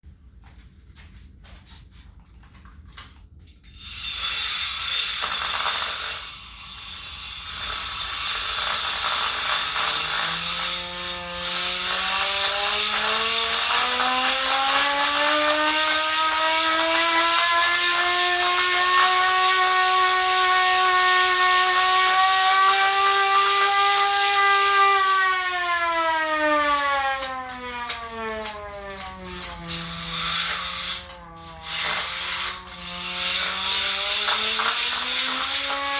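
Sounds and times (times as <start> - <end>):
hand-crank siren wailing: 6.0 - 35.9.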